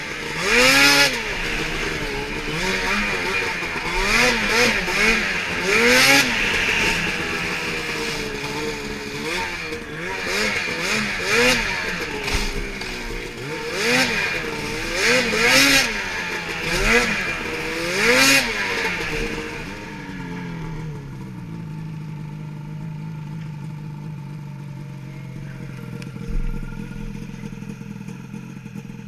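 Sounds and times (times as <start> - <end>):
snowmobile engine revving: 0.0 - 22.9, 24.0 - 29.0.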